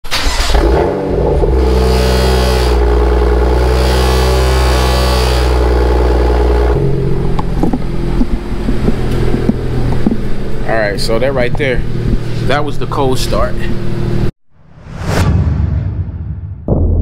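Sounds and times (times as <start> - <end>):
car engine cold start and idle: 0.0 - 14.3.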